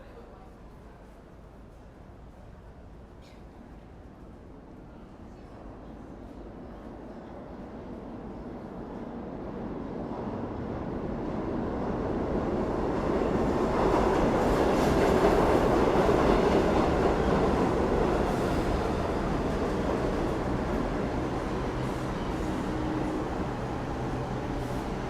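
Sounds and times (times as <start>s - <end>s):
subway train rumbling: 0.0s - 25.0s.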